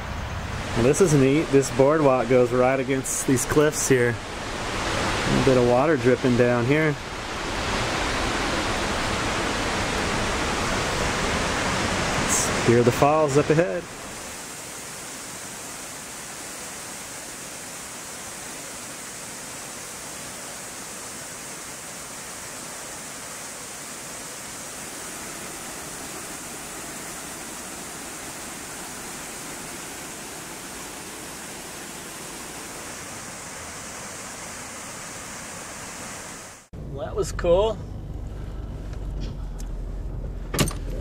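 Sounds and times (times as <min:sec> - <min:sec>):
waterfall rushing: 0:00.0 - 0:36.7.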